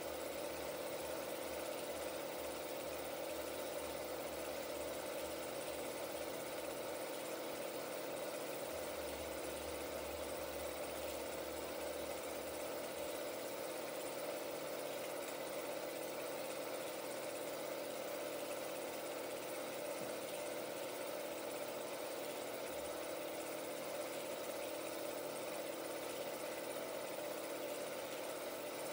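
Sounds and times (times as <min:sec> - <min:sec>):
film projector whirring and rattling: 0:00.0 - 0:28.9.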